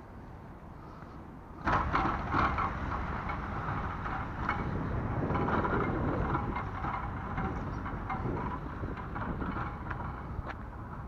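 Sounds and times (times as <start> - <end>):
footsteps on tarmac: 0.2 - 11.0
low rumble: 1.6 - 11.0.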